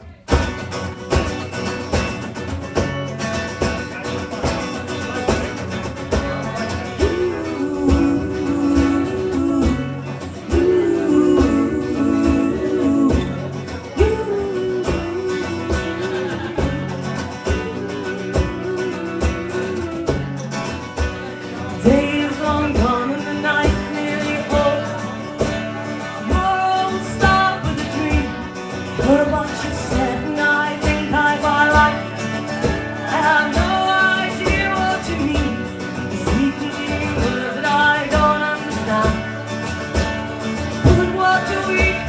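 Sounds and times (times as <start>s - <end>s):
live band playing: 0.0s - 42.0s
strummed guitars: 0.0s - 42.0s
held melody line: 1.5s - 42.0s.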